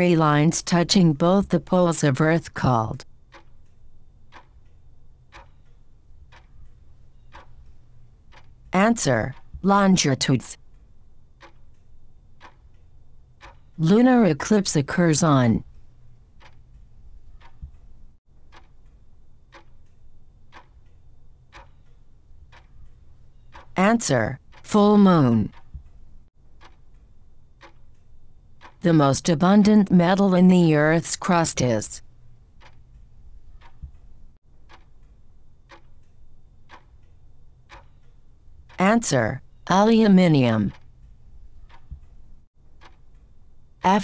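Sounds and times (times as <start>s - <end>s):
clock ticking: 0.0s - 44.0s.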